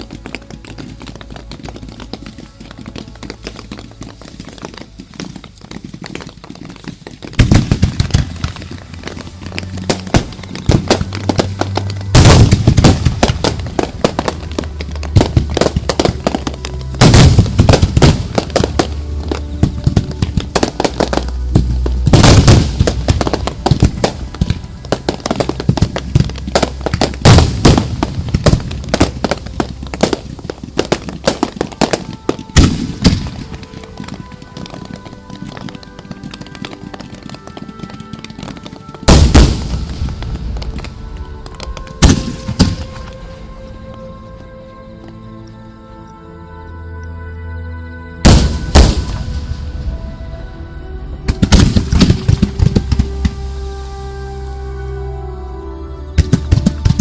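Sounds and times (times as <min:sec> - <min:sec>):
heavy firework reports: 0:00.0 - 0:44.2, 0:48.2 - 0:54.2
fireworks bursting and crackling: 0:00.0 - 0:45.6, 0:48.2 - 0:55.0, 0:56.1 - 0:57.0
show music: 0:00.0 - 0:57.0.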